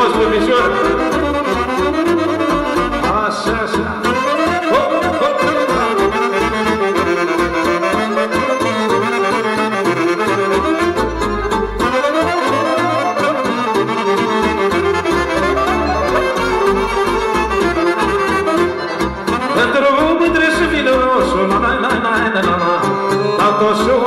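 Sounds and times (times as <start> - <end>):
folk band instrumental music: 0.0 - 24.0.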